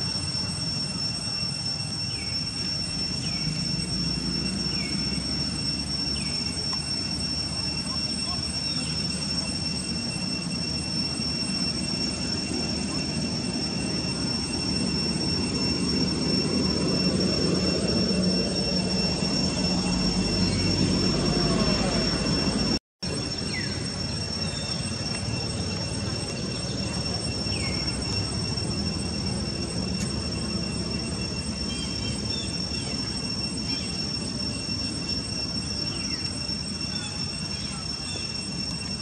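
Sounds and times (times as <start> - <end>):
high-pitched drone: 0.0 - 39.0
lower steady tone: 0.0 - 39.0.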